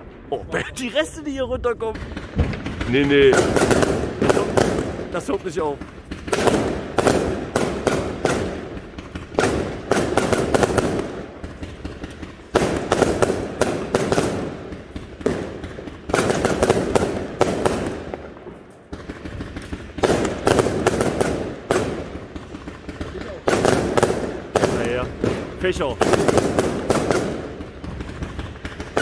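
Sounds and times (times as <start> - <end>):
crackling firework stars: 0.0 - 29.0
firework bangs: 0.0 - 29.0.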